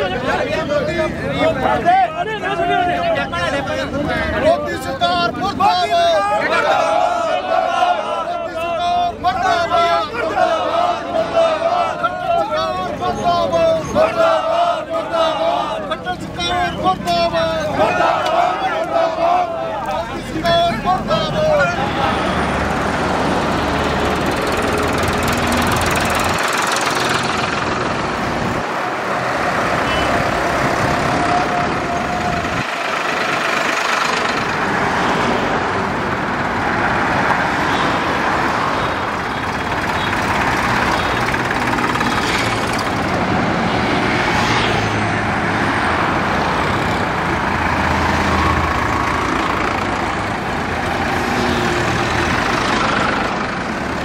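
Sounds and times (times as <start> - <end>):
passing traffic: 0.0 - 54.0
tractor engines running: 0.0 - 54.0
tyre road noise: 0.0 - 54.0.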